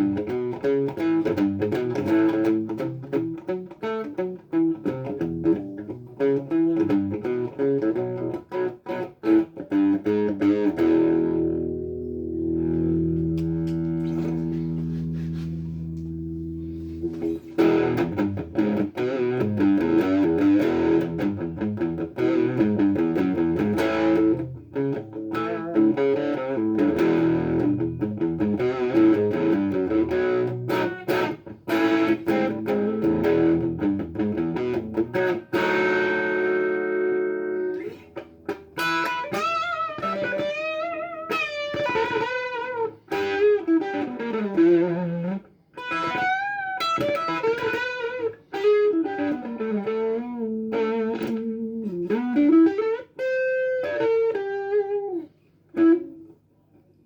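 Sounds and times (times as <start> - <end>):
overdriven electric guitar: 0.0 - 56.4.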